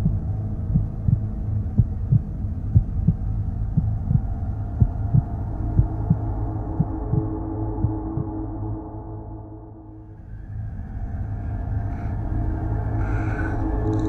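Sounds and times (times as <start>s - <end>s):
low drone music: 0.0s - 14.0s.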